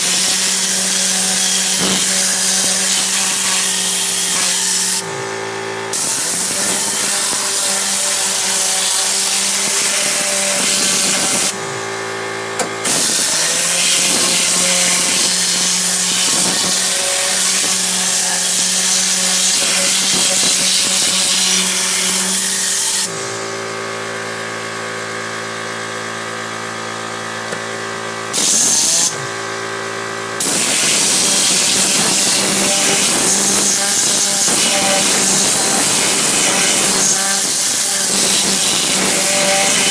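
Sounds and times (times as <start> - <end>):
motor hum: 0.0 - 39.9.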